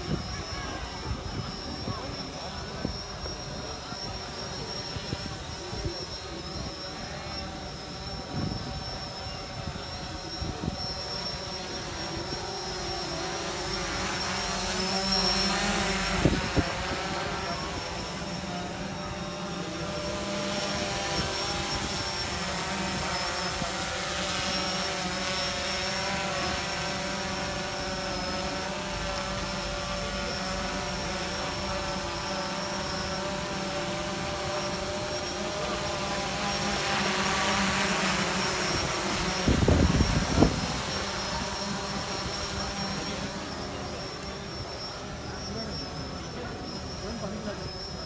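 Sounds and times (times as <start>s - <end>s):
drone propellers humming: 0.0s - 48.0s.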